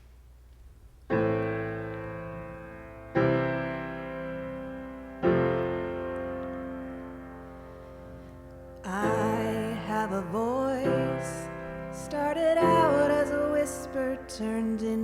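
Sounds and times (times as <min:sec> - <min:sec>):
piano chords: 0:01.0 - 0:15.0.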